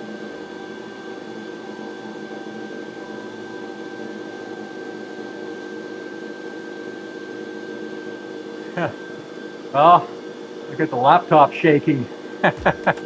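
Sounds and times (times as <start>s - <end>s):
exhaust fan: 0.0s - 13.0s
laser engraver whirring hum: 0.0s - 13.0s.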